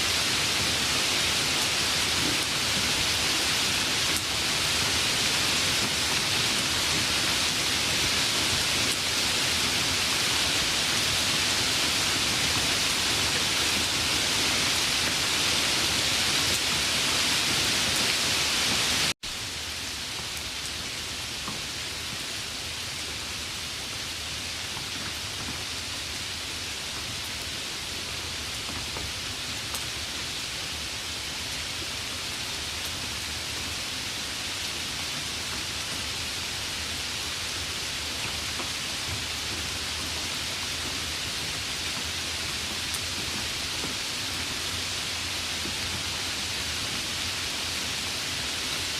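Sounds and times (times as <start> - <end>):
dense rainfall: 0.0 - 48.9.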